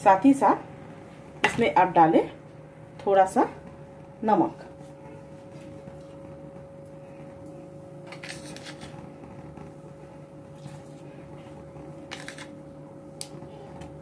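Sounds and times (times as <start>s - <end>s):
kitchen background hum: 0.0s - 14.0s.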